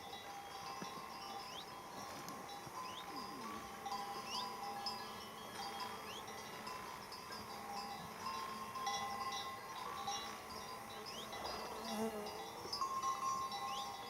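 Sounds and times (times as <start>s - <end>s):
horse bells ringing: 0.0s - 14.0s.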